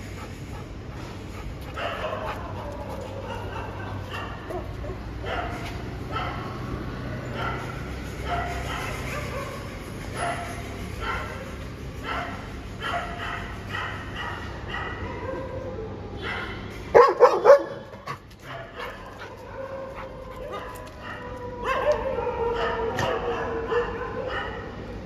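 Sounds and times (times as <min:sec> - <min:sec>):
dogs barking and yipping: 0:00.0 - 0:25.0.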